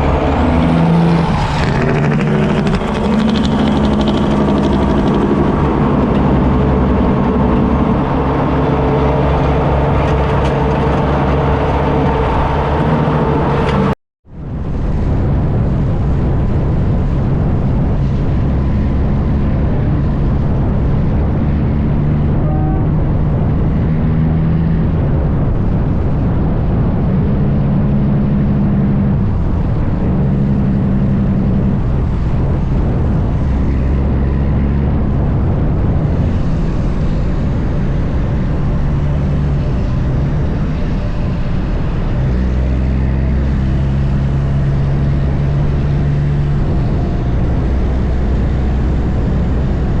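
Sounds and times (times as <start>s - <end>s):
diesel truck engine rumbling: 0.0s - 50.0s
road noise: 0.0s - 50.0s.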